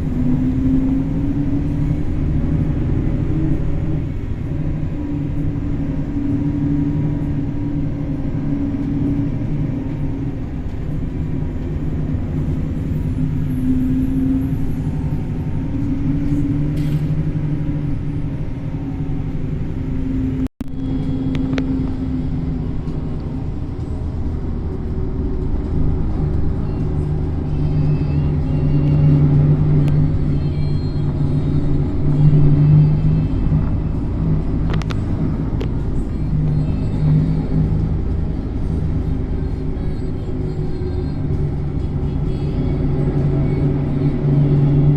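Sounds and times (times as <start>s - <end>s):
vehicle engine rumbling: 0.0s - 44.9s.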